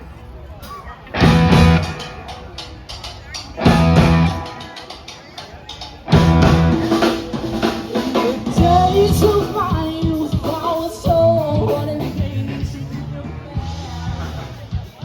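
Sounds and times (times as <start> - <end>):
live rock band playing: 0.6 - 15.0.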